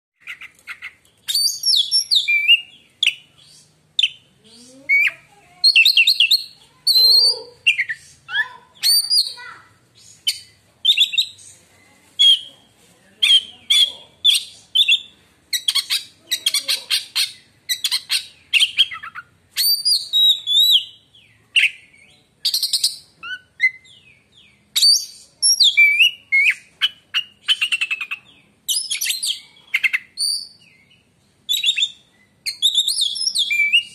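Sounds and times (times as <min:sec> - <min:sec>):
bird singing: 0:00.2 - 0:12.6, 0:13.2 - 0:33.9.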